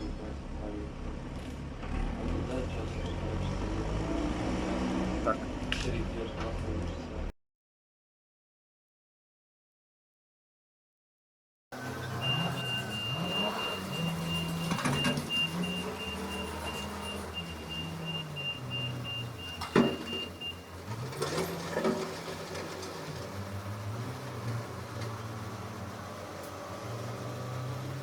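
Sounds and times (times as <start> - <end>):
diesel engine revving: 0.0 - 7.3, 11.8 - 28.0.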